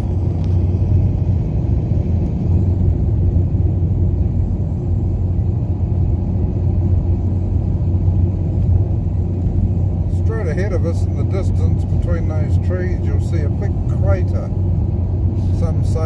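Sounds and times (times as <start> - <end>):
car cabin rumble of tyres and engine: 0.0 - 16.0.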